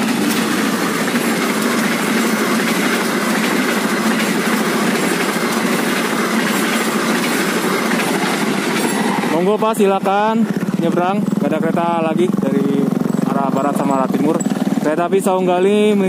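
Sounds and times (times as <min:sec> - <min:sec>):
steel wheels running on rails: 0:00.0 - 0:16.0.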